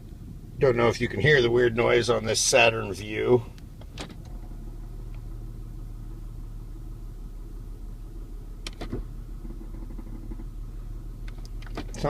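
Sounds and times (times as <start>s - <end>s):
car engine idling with rattle: 0.0s - 12.0s.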